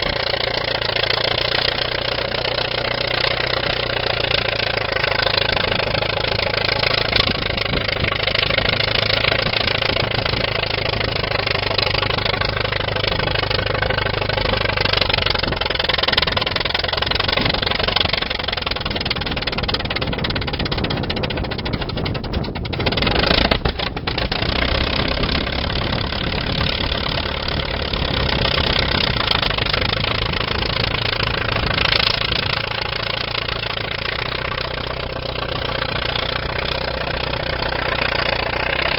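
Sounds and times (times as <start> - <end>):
bulldozer engine running: 0.0 - 38.9.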